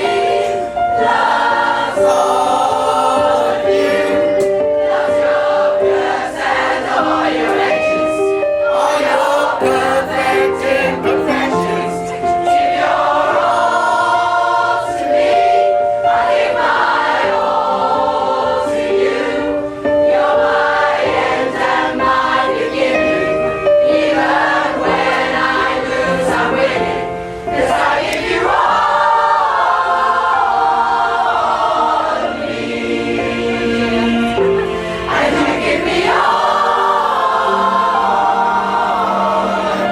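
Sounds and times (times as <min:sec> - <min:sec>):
pop choir singing: 0:00.0 - 0:39.9.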